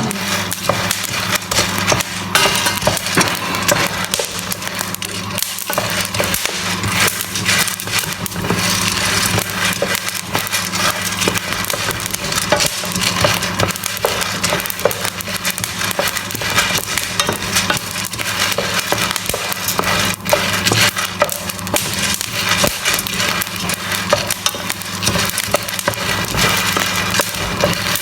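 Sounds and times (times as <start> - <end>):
coffee beans crackling in a pan: 0.0 - 28.0
steady low hum: 0.0 - 28.0.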